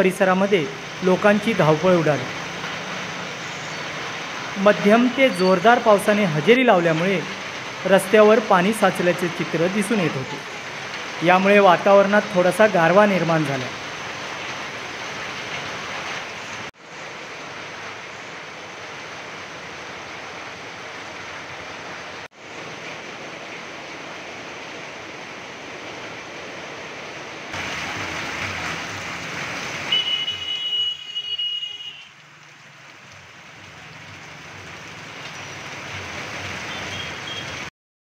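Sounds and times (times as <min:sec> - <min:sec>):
heavy rain on road: 0:00.0 - 0:37.7.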